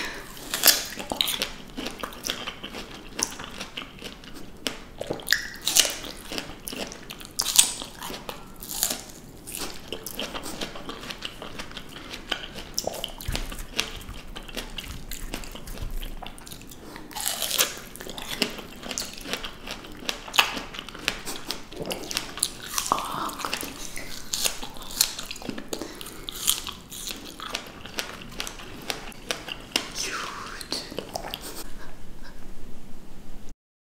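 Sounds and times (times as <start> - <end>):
crisp fruit bites: 0.0 - 31.5
chewing with juicy mouth sounds: 0.0 - 31.9.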